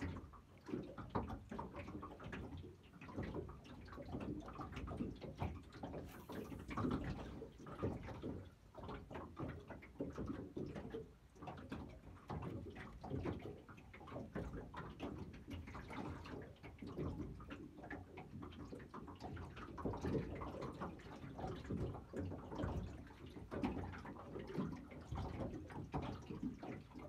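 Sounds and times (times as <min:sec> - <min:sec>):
waves lapping against boat hull: 0:00.0 - 0:27.0.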